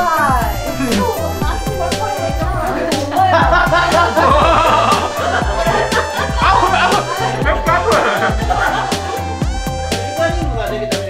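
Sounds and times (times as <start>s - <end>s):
gliding melodic lines: 0.0s - 10.9s
music with bass beat and drums: 0.0s - 11.0s.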